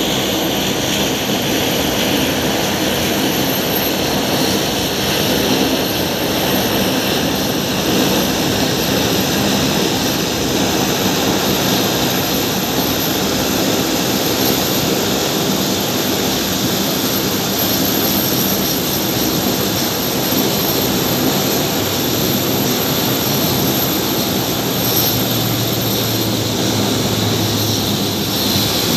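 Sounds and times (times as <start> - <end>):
turboprop engines droning: 0.0 - 28.9.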